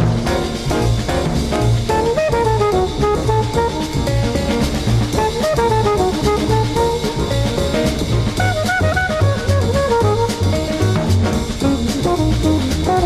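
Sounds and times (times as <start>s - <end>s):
drum and bass beat: 0.0s - 13.0s.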